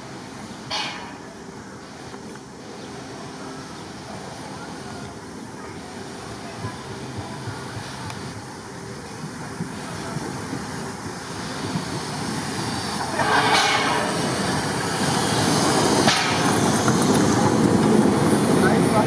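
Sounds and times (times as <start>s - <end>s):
steam hissing: 0.0s - 19.0s
steam locomotive passing: 0.0s - 19.0s.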